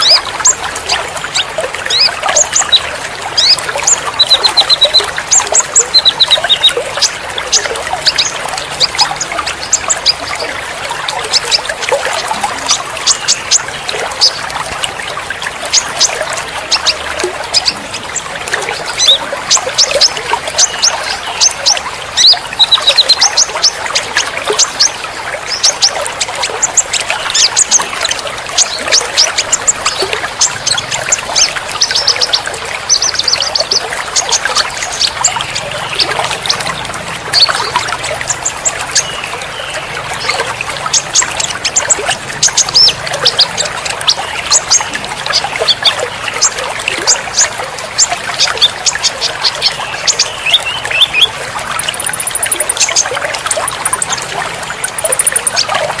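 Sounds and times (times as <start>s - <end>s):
songbirds chirping and trilling: 0.0s - 56.0s
trickle of running water: 0.0s - 56.0s.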